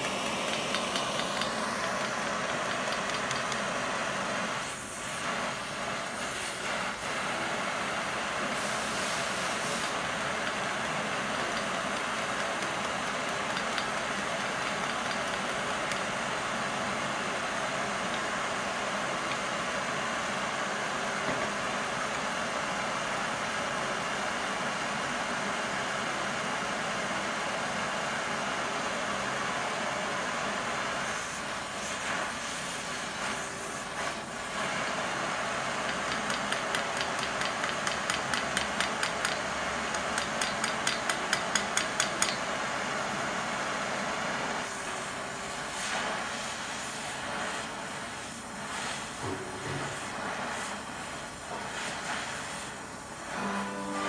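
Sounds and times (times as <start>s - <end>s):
gas torch flame hissing: 0.0s - 24.5s, 29.6s - 53.6s.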